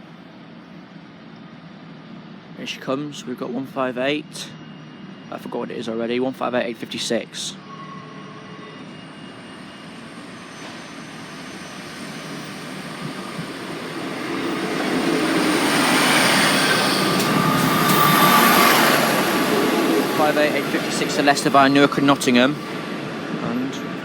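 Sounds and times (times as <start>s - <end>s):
diesel train passing: 0.0s - 24.0s.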